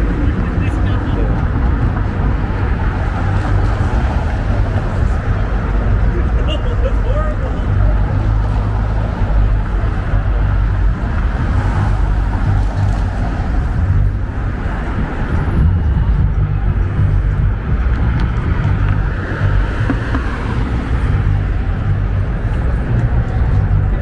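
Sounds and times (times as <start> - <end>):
cars driving past: 0.0 - 24.0.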